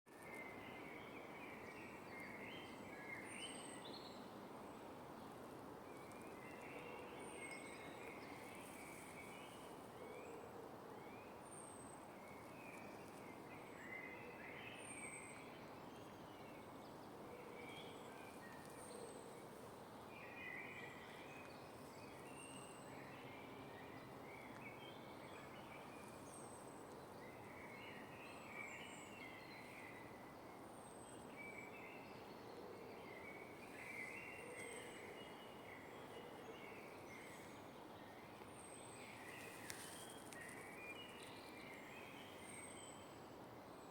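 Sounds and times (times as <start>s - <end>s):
birds chirping song: 0.1s - 43.9s.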